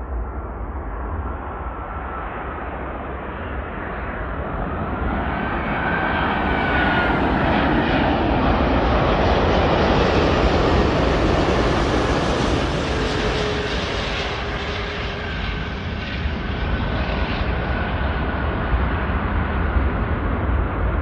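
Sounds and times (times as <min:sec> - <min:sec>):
jet airliner landing roar: 0:00.0 - 0:21.0.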